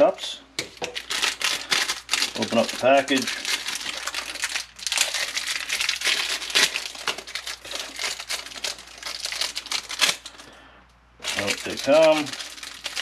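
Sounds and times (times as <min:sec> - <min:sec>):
plastic packaging crinkling: 0:00.6 - 0:10.5, 0:11.2 - 0:13.0.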